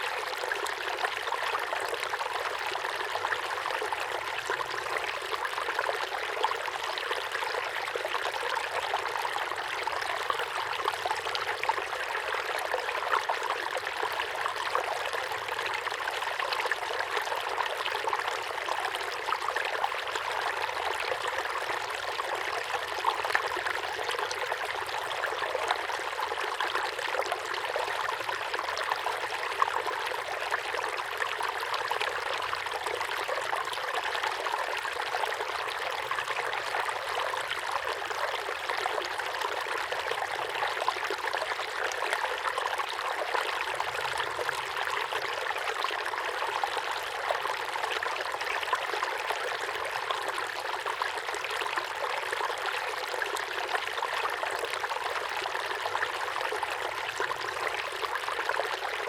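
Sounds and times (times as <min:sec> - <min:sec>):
waterfall pouring into pond: 0:00.0 - 0:59.0.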